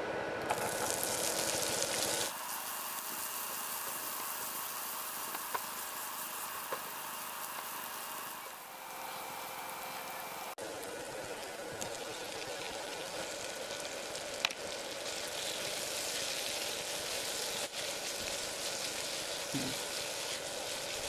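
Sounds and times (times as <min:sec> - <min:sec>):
food frying in hot oil: 0:00.5 - 0:09.2, 0:10.6 - 0:21.0.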